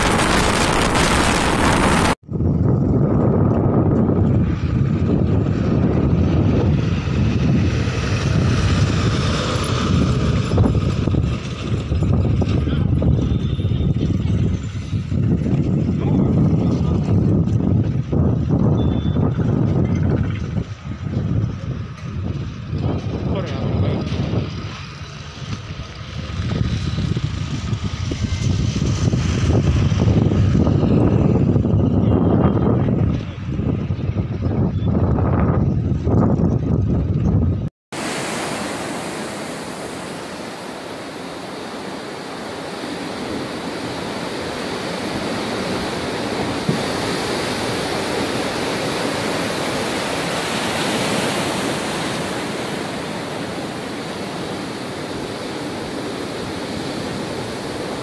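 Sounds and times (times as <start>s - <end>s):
strong wind buffeting microphone: 0.0s - 58.0s.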